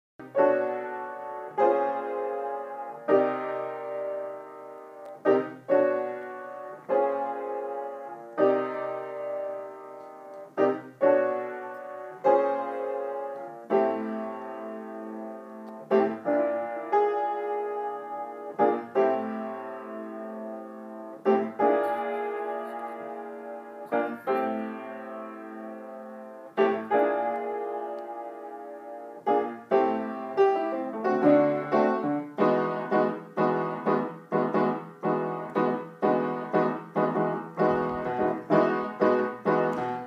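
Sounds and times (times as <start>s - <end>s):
piano chords: 0.2s - 40.0s.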